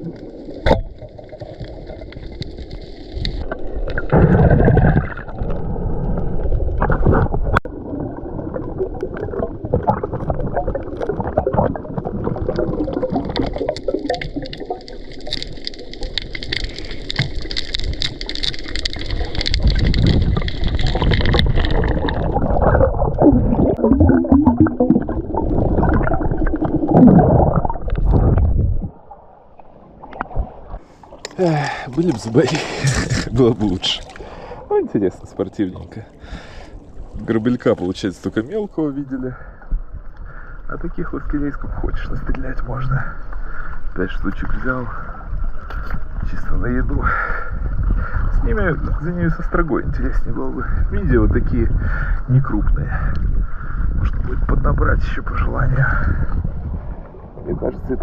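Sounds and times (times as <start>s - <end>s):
seawater gurgling and sloshing: 0.0s - 58.0s.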